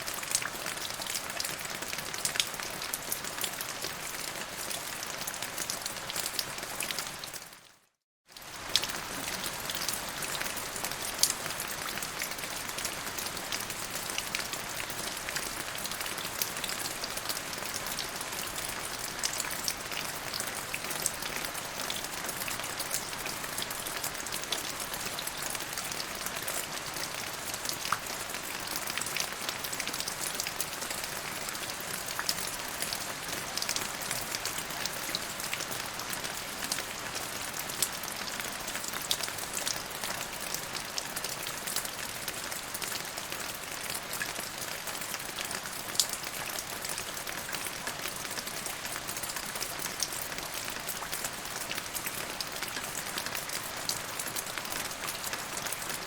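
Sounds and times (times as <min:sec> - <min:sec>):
rain falling: 0:08.4 - 0:56.0.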